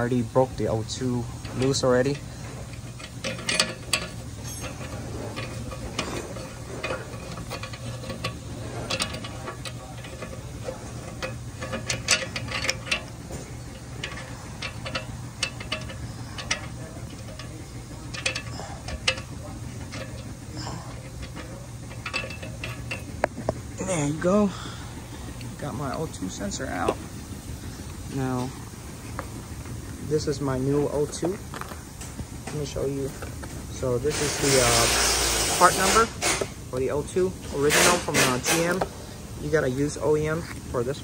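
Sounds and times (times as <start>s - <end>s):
metal clicks and scrapes: 0.0s - 23.8s, 31.0s - 41.0s
wire rattling against pipe: 0.0s - 28.6s, 29.6s - 41.0s
steady low hum: 0.0s - 41.0s.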